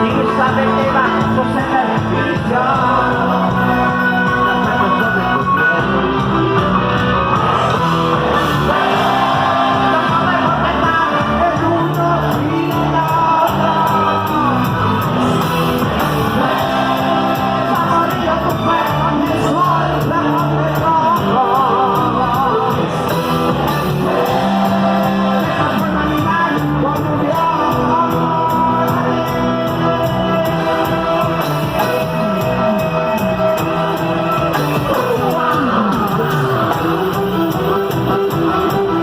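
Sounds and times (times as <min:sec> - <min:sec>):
person singing: 0:00.0 - 0:06.8, 0:07.4 - 0:39.0
live band playing loudly: 0:00.0 - 0:39.0
percussion beat: 0:00.0 - 0:39.0.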